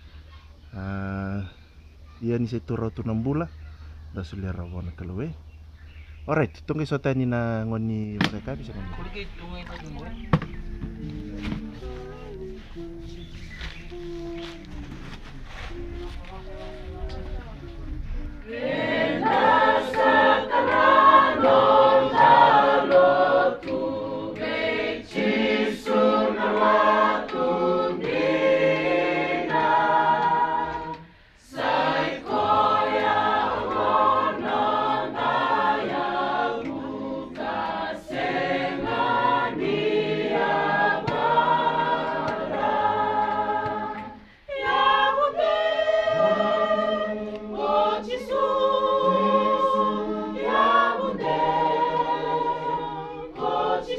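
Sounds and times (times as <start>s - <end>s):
choir singing a cappella: 9.8s - 53.9s.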